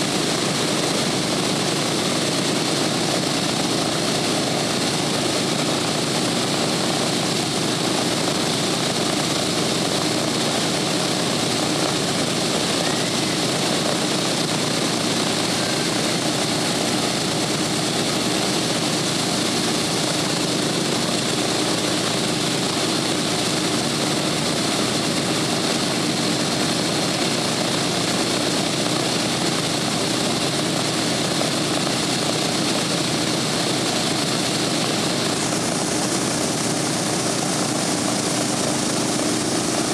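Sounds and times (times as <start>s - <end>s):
radial engines idling: 0.0s - 39.9s.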